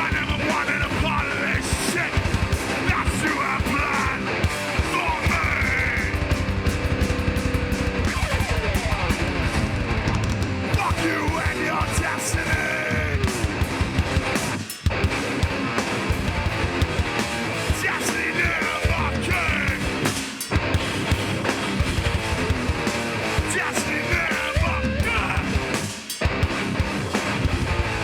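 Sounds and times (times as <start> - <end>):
heavy band playing instrumental: 0.0 - 28.0.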